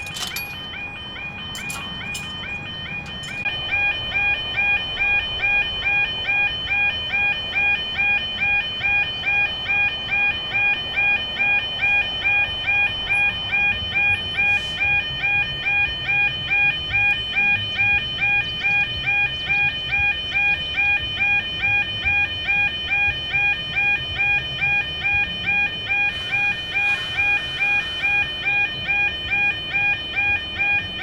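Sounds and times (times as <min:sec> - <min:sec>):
level crossing warning alarm: 0:00.0 - 0:31.0.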